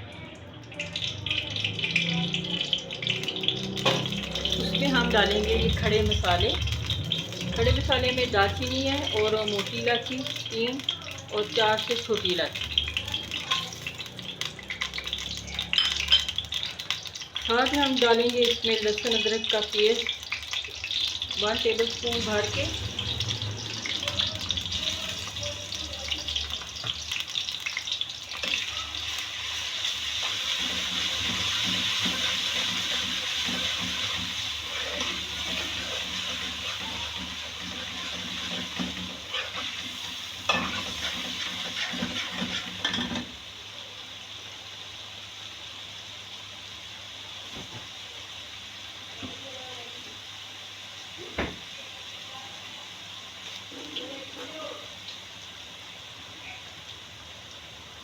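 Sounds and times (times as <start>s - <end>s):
spices sizzling in hot oil: 0.0s - 58.0s.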